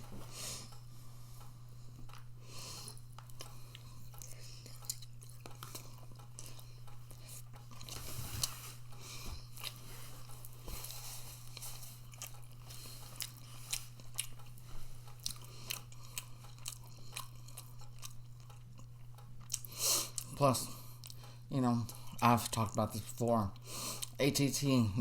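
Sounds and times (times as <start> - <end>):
person chewing food: 0.0 - 24.7
steady low hum: 0.0 - 25.0.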